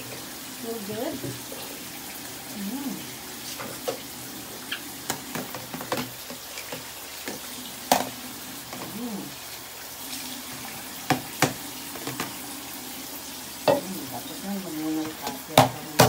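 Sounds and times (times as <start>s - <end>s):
running water hissing: 0.0s - 16.0s
water splashing: 0.0s - 16.0s.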